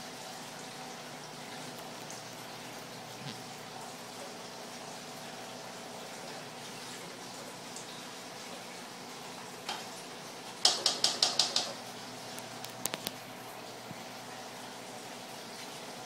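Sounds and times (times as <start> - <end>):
aquarium water bubbling: 0.0 - 16.0.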